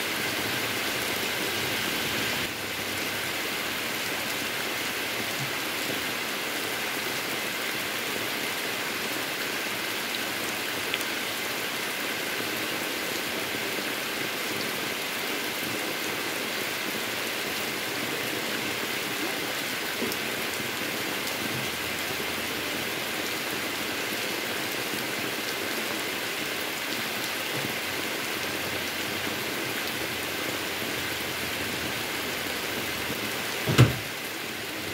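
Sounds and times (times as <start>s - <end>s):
heavy rain on asphalt road: 0.0s - 34.9s.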